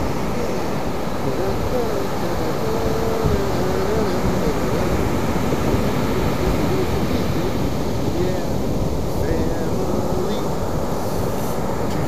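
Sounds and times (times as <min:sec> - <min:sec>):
surf breaking on a beach: 0:00.0 - 0:12.0
wind buffeting the microphone: 0:00.0 - 0:12.0.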